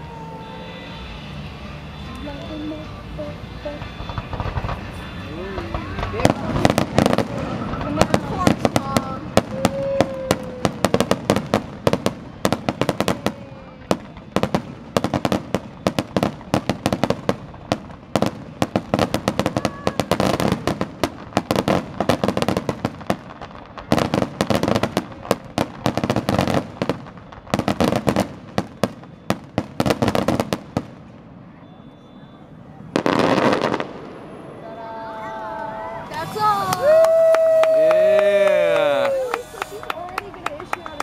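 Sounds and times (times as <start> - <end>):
fireworks bursting: 0.0 - 41.0
fireworks crackling: 0.0 - 41.0.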